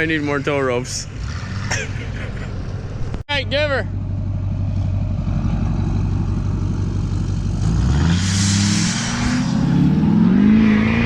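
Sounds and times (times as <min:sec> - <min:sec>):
truck engine revving under load: 0:00.0 - 0:03.2, 0:04.1 - 0:11.0.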